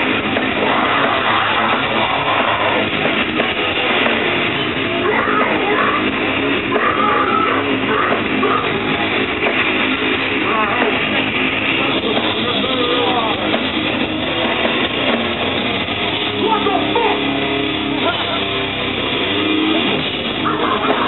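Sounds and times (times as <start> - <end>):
live metal band playing loudly: 0.0 - 21.0.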